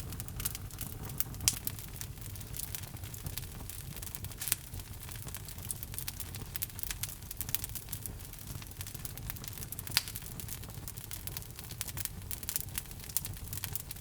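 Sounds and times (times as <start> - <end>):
logs crackling in fireplace: 0.0 - 14.0
low rumble of flames: 0.0 - 14.0.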